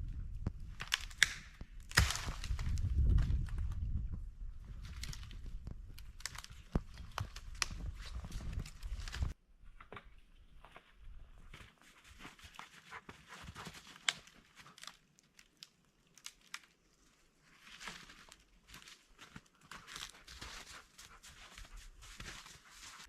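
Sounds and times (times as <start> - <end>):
crinkling and crunching handling: 0.4 - 9.4, 10.5 - 23.0.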